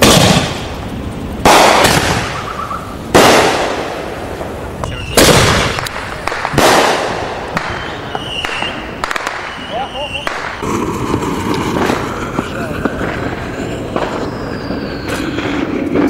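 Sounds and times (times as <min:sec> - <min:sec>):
fireworks bangs with echo: 0:00.0 - 0:16.0.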